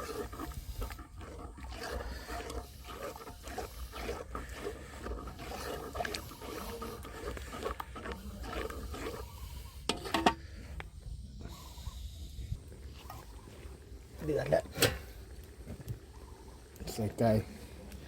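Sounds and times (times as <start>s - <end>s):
curry paste frying and bubbling: 0.0s - 18.0s.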